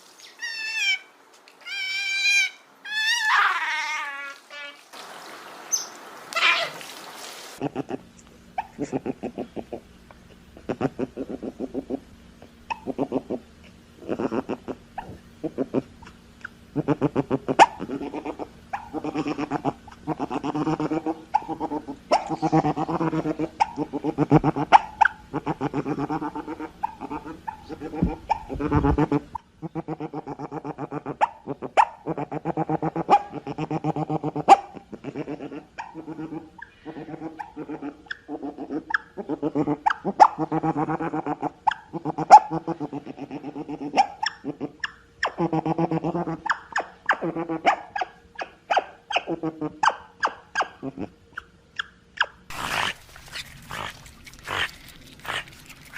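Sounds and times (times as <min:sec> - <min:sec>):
otters calling: 0:10.6 - 0:55.9.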